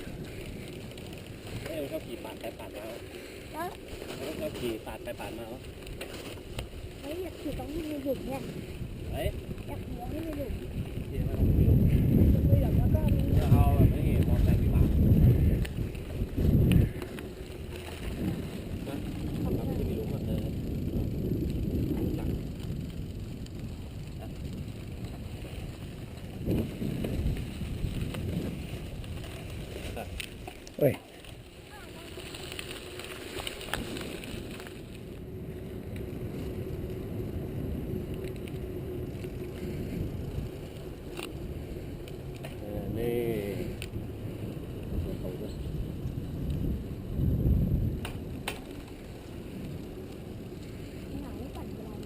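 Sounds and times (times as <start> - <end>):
bike jolts: 0.0 - 52.0
bike tyres rumbling on trail: 0.0 - 52.0
wind buffeting microphone: 0.0 - 52.0.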